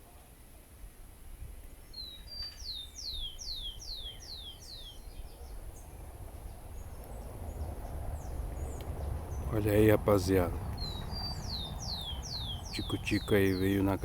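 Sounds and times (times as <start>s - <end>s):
songbird singing: 1.3s - 14.0s.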